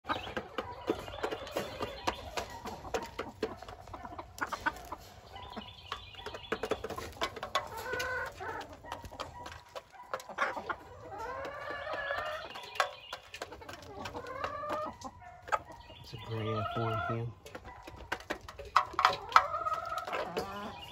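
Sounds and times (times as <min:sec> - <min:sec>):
chickens clucking: 0:00.0 - 0:20.9
long arching chicken calls: 0:00.0 - 0:20.9.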